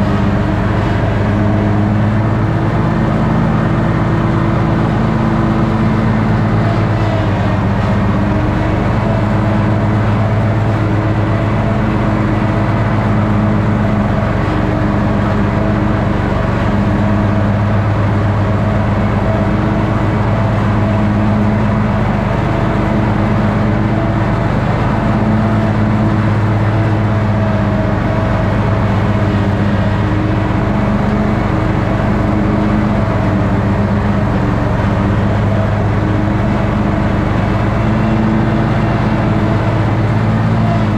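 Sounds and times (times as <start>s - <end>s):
ride-on mower engine running: 0.0s - 40.9s.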